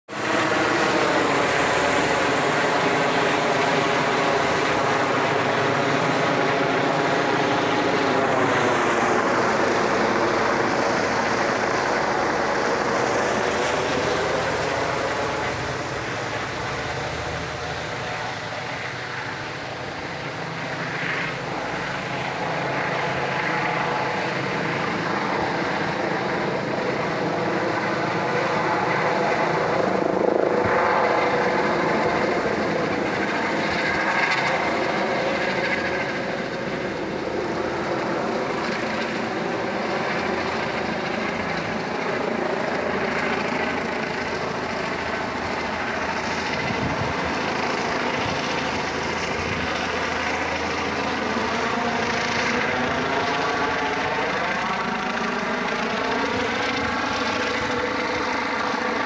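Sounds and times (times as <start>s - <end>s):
helicopter rotor and turbine drone: 0.0s - 59.0s.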